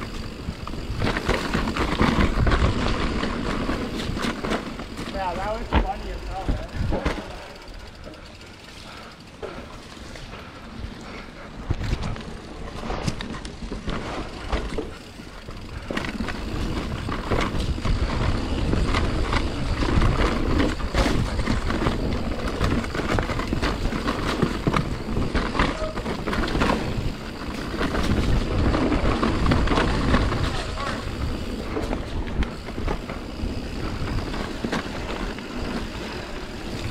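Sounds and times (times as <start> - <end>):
tyres rolling over mud: 0.0 - 8.0, 11.8 - 36.9
bike knocks and rattles: 0.0 - 10.4, 11.6 - 36.9.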